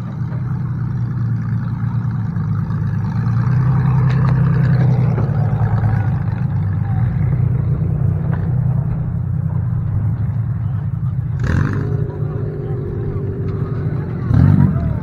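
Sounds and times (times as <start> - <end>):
car engines running: 0.0 - 15.0
car driving past: 2.4 - 15.0.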